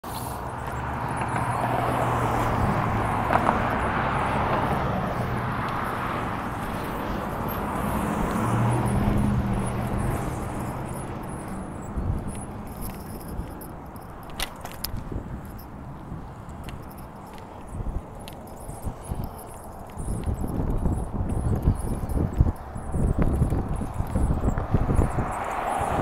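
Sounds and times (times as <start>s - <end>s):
bicycle tyre and wind rush: 0.1s - 26.0s.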